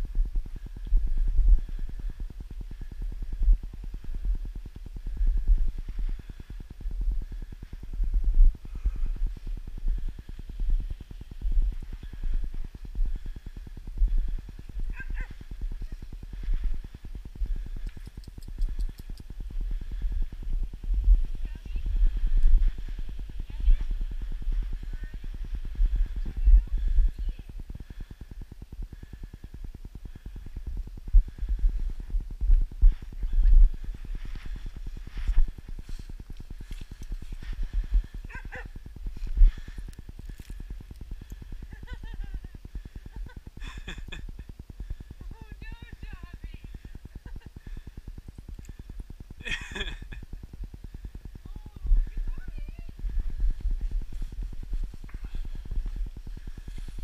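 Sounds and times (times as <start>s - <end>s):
wind buffeting microphone: 0.0s - 43.6s, 44.3s - 57.0s
low rumble: 0.0s - 45.2s, 46.6s - 57.0s.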